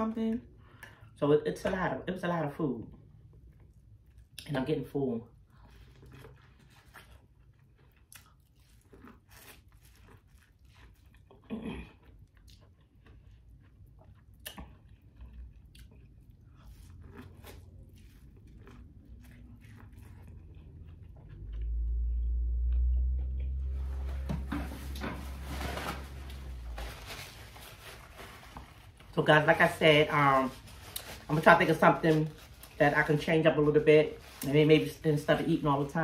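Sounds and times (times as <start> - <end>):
chewing and crunching corn: 2.8 - 36.0.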